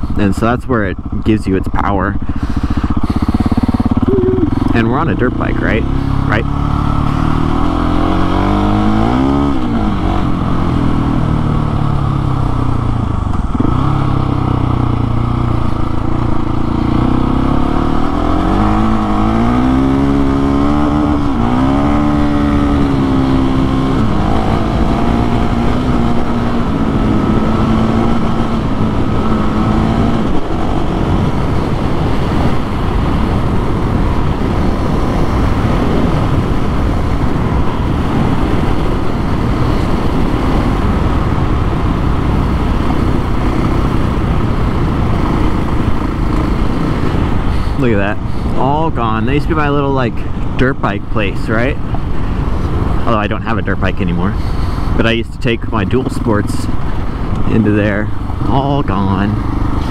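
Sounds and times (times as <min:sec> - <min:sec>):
motorcycle engine accelerating: 0:00.0 - 0:59.9
steady rushing noise: 0:00.0 - 0:59.9.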